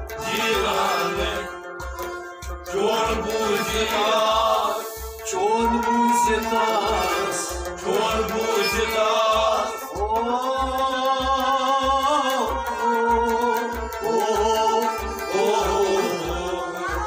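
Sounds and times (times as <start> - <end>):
bowed sarangi: 0.0 - 17.0
harmonium: 0.0 - 17.0
men singing: 0.0 - 17.0
plucked rabab: 0.0 - 17.0.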